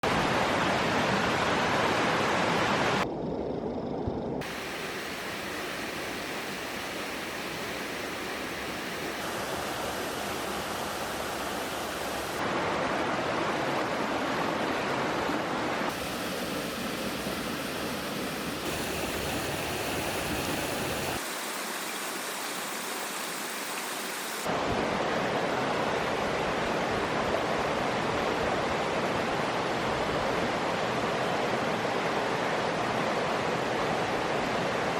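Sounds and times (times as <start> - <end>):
stream water rushing: 0.0 - 3.0, 4.4 - 34.9.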